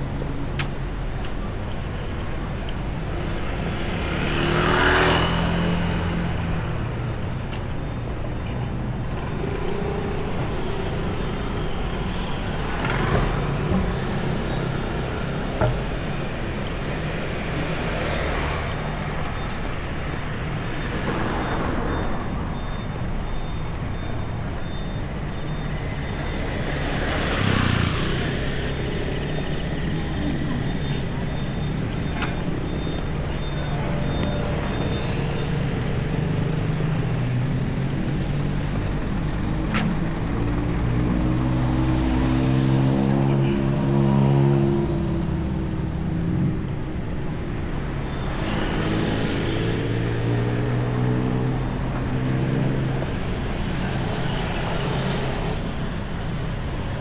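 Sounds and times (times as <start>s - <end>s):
traffic rumble: 0.0s - 57.0s
vehicles passing close by: 0.0s - 57.0s.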